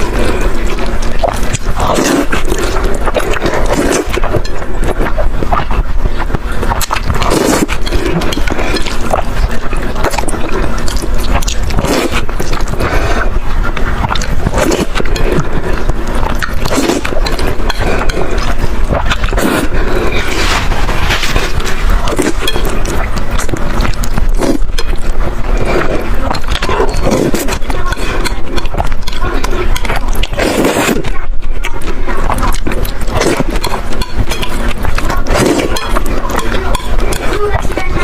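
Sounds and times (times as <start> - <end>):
noodles slurped and chewed: 0.0 - 38.0.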